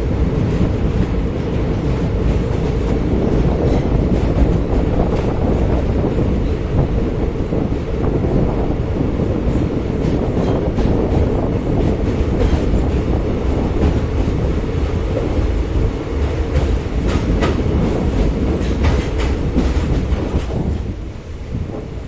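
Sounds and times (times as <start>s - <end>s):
wheels clacking over rails: 0.0s - 7.0s, 9.4s - 21.2s
train rumbling on the track: 0.0s - 22.0s.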